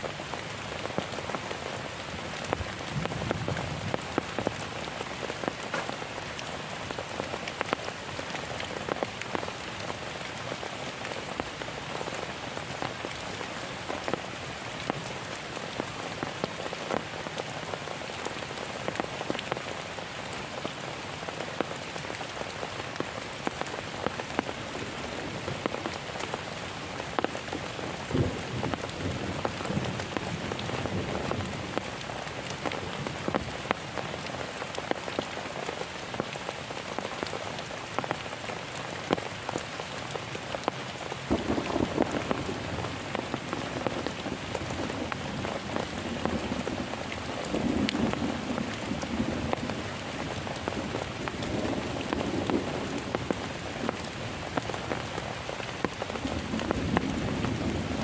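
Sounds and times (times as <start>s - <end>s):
heavy rain falling: 0.0s - 58.0s
raindrops ticking on a surface: 0.0s - 58.0s.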